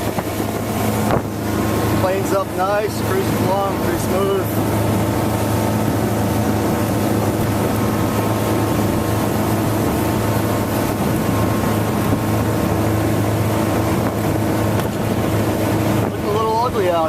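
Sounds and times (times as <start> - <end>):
boat engine running: 0.0 - 17.0
rush of wind and water: 0.0 - 17.0.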